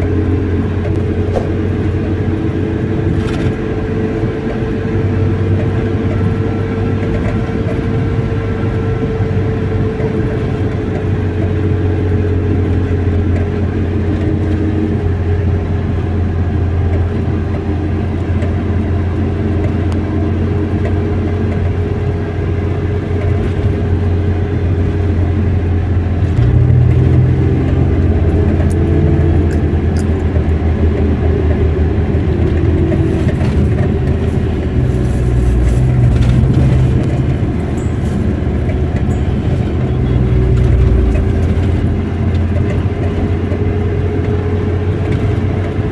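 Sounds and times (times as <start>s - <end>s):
car engine and road drone: 0.0s - 45.9s.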